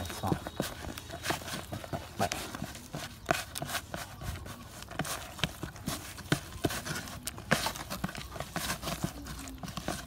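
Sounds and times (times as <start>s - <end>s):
hand stirring crunchy feed: 0.0s - 10.0s.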